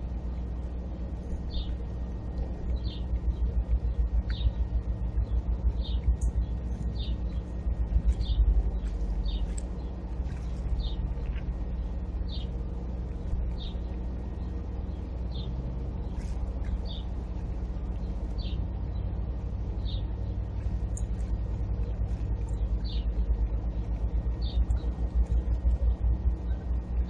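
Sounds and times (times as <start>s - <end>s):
steady low rumble: 0.0s - 27.0s
songbird chirping: 0.6s - 25.7s.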